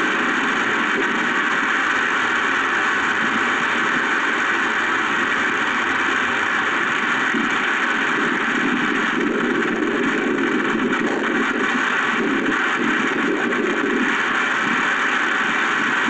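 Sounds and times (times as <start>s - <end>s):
heavy rain: 0.0s - 16.0s
storm wind: 0.0s - 16.0s.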